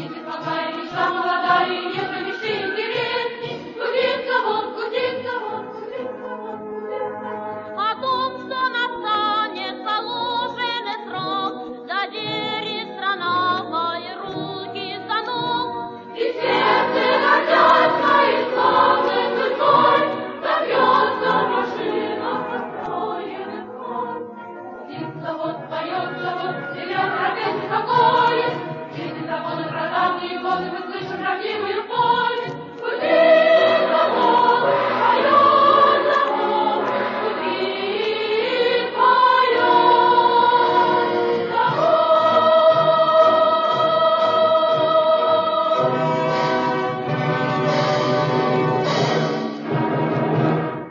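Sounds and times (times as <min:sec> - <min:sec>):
choir singing: 0:00.0 - 0:11.3, 0:13.2 - 0:50.9.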